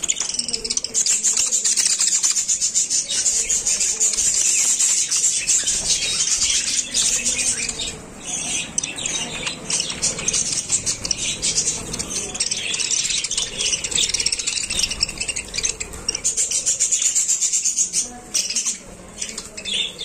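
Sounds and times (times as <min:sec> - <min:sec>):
budgerigars chattering and chirping: 0:00.0 - 0:20.0.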